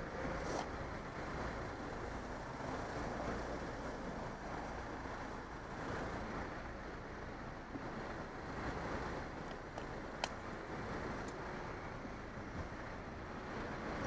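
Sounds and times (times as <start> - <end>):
road noise: 0.0 - 14.0
wind rumble on microphone: 0.0 - 14.0.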